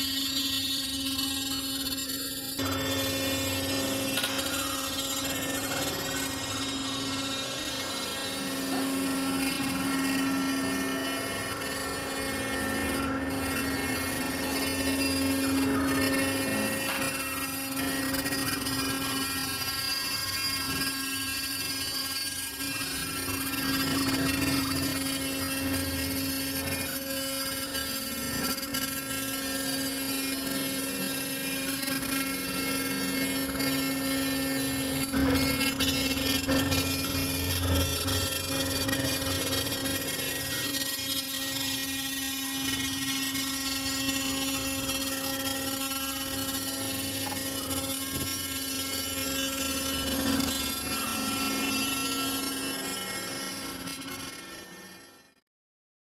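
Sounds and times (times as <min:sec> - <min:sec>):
router spindle whining: 0:00.0 - 0:55.4.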